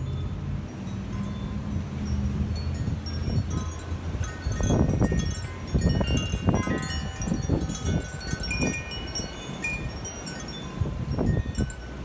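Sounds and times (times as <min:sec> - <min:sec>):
wind chimes ringing: 0:00.0 - 0:12.0
wind buffeting microphone: 0:00.3 - 0:12.0.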